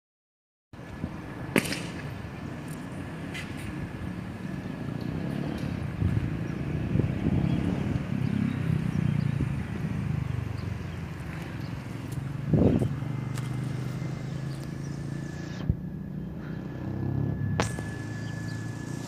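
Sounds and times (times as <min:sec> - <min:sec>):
diesel locomotive engines rumbling: 0:00.8 - 0:19.0.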